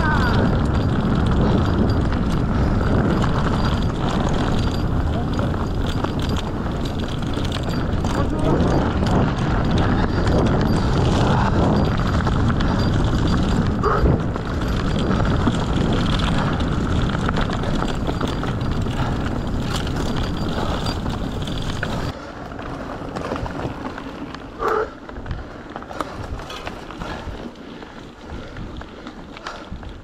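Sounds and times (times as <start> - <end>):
bike tyres rolling on trail: 0.0 - 30.0
wind buffeting microphone: 0.0 - 30.0.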